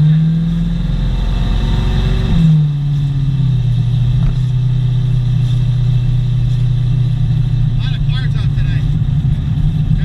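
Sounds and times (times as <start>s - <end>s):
car engine low drone: 0.0s - 10.0s.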